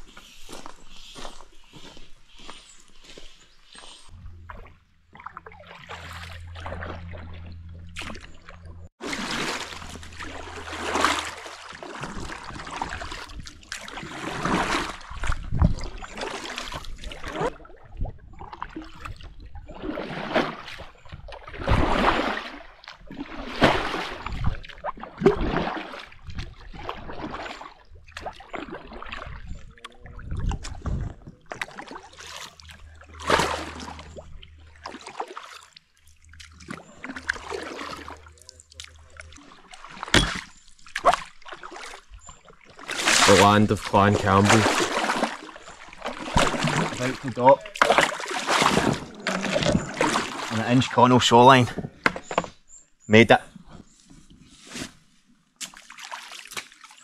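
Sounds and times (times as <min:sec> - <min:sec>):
paddle splashing in water: 0:04.0 - 0:52.6, 0:55.6 - 0:57.0.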